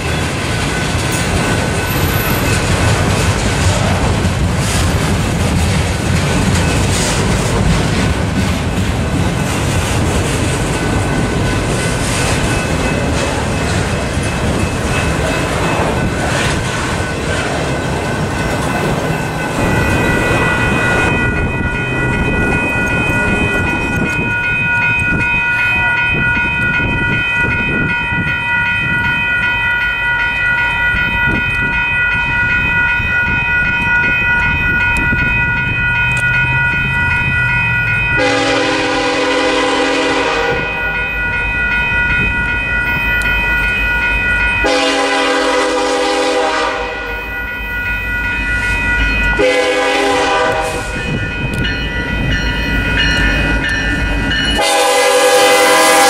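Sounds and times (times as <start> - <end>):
grade crossing bell ringing: 0.0 - 4.4, 5.1 - 56.0
train wheels clacking and rumbling: 0.0 - 56.0.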